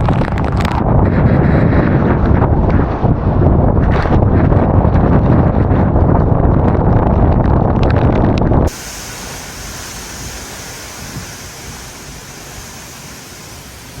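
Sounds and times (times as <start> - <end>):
storm wind rushing: 0.0 - 14.0
wind buffeting microphone: 0.0 - 14.0.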